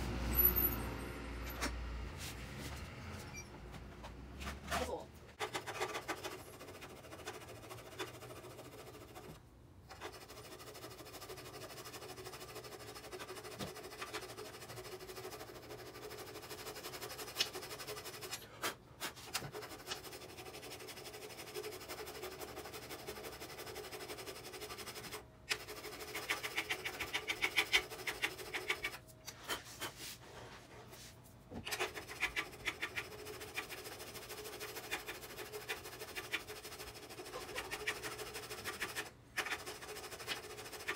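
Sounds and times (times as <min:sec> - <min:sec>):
hand file scraping metal: 0:05.4 - 0:09.3, 0:09.9 - 0:30.2, 0:31.7 - 0:40.9.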